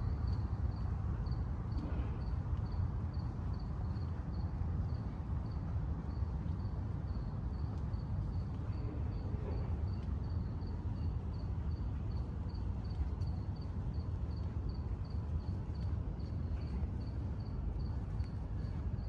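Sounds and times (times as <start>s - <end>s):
cricket chirping: 0.0s - 19.0s
steady low rumble: 0.0s - 19.0s.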